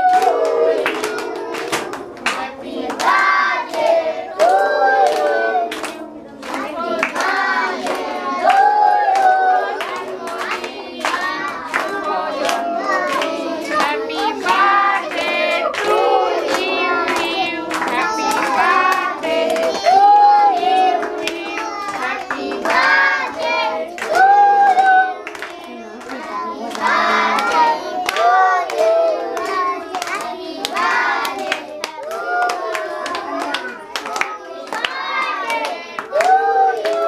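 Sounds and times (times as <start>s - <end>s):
hands clapping: 0.0s - 37.0s
women and children singing: 0.0s - 37.0s.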